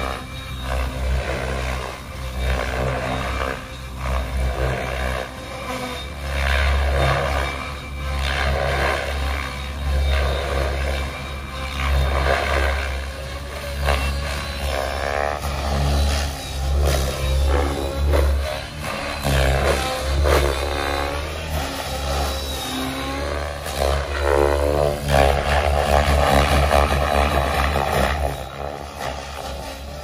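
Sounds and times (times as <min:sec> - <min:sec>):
electric motor and rotors whining: 0:00.0 - 0:30.0.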